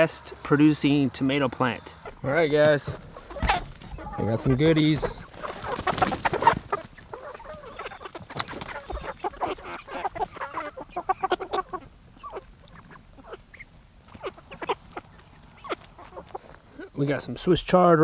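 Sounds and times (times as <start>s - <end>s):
hens clucking: 0.0s - 17.6s.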